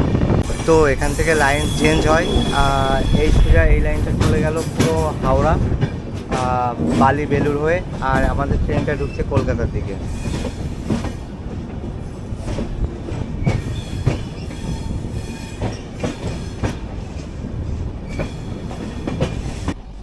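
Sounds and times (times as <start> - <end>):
train wheels rumbling on track: 0.0 - 20.0
wheels clacking over rail joints: 0.2 - 20.0.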